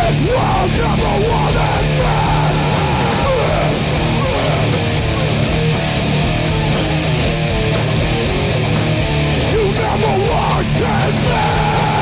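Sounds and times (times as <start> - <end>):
bass guitar: 0.0 - 12.0
distorted electric guitars: 0.0 - 12.0
fast drums with cymbal hits: 0.0 - 12.0.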